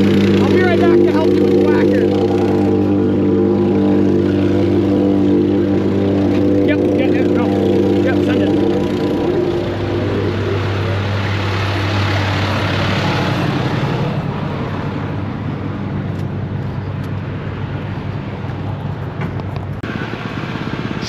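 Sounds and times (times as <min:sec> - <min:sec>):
large engine running: 0:00.0 - 0:21.0.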